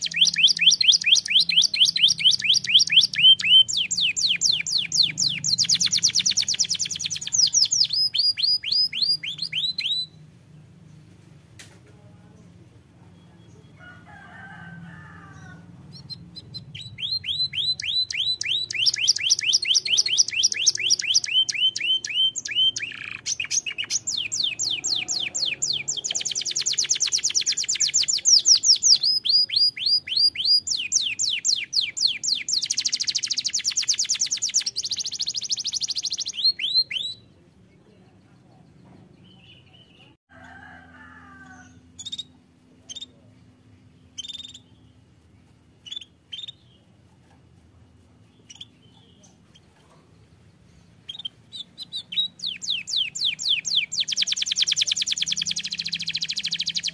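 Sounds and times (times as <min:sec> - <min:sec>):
bird chirps: 0:00.0 - 0:11.2, 0:12.4 - 0:13.9, 0:15.4 - 0:40.2, 0:41.6 - 0:56.9
canary singing trills: 0:00.0 - 0:11.2, 0:12.4 - 0:40.2, 0:41.4 - 0:56.9.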